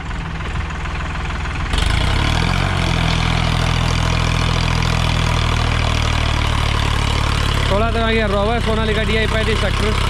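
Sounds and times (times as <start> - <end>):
tractor diesel engine under load: 0.0 - 10.0.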